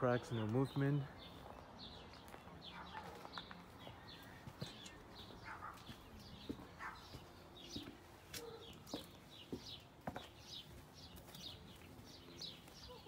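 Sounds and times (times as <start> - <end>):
birds chirping: 0.0 - 13.0
soft footsteps on a path: 0.0 - 13.0.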